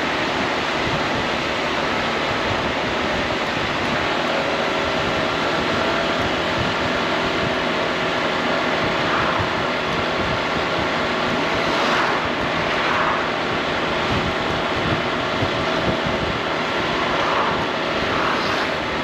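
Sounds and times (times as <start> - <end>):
scooter engine hum: 0.0 - 19.0
wind rush on microphone: 0.0 - 19.0.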